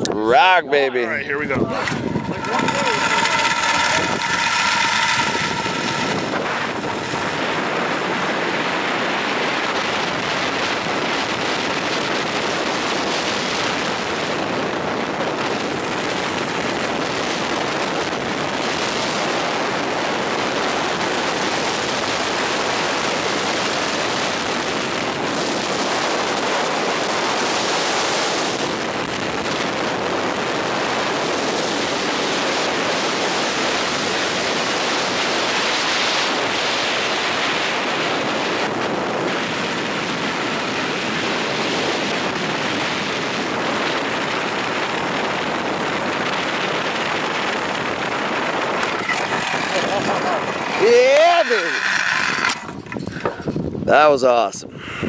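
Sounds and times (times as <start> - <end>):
zipline trolley on steel cable: 0.0 - 53.7.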